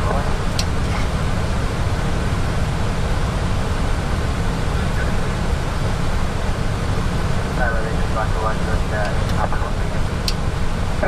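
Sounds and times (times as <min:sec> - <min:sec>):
aircraft cockpit airflow rush: 0:00.0 - 0:11.0.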